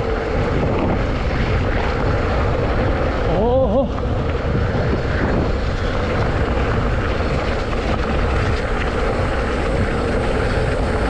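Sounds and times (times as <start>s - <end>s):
deep rumble: 0.0s - 11.0s
rolling road noise: 0.0s - 11.0s
wind on microphone: 0.0s - 11.0s.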